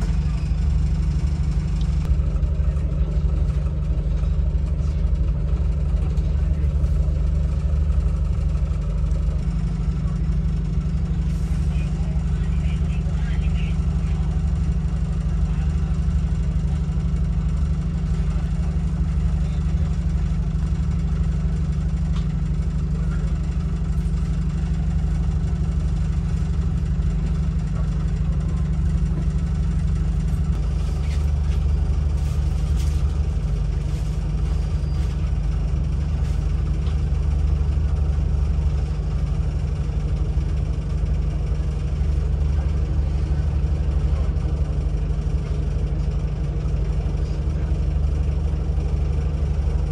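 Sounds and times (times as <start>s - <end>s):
diesel train engine idling: 0.0s - 49.9s.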